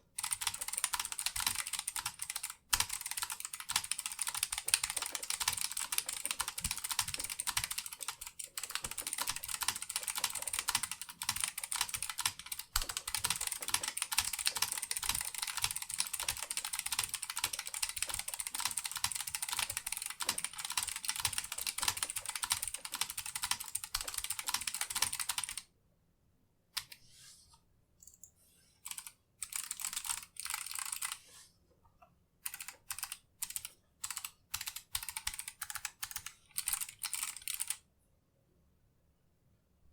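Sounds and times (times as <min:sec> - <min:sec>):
fast typing on clicky keyboard: 0:00.1 - 0:25.7, 0:28.8 - 0:31.2, 0:32.4 - 0:37.8.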